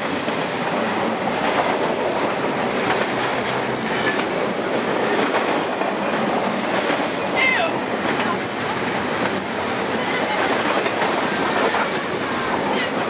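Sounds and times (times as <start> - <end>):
freight train wheels rolling: 0.0 - 13.0.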